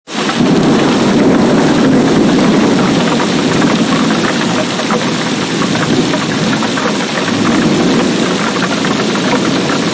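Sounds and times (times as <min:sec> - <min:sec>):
heavy rain pouring: 0:00.1 - 0:09.9.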